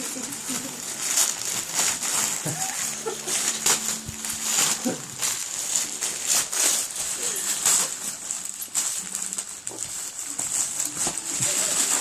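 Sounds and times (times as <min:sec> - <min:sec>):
wrapping paper rustling and tearing: 0:00.0 - 0:12.0.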